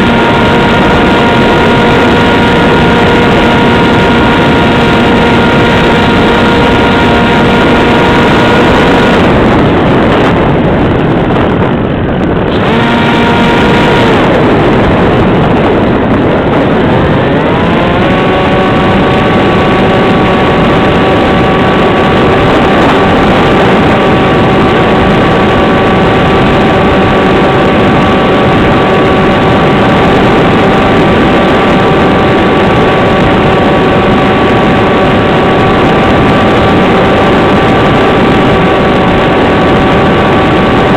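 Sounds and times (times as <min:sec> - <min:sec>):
model plane electric motor whine: 0:00.0 - 0:09.8, 0:12.5 - 0:40.9.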